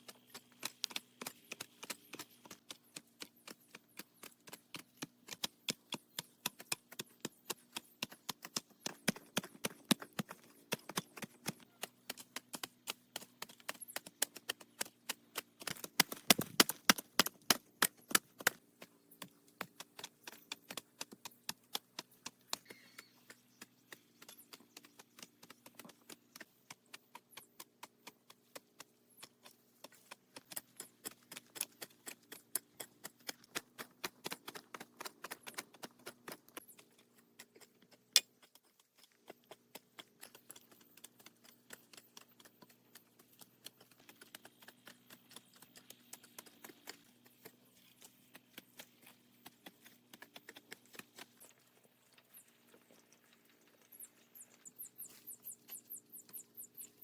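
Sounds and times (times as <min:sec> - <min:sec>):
rapid sharp taps: 0:00.0 - 0:51.5.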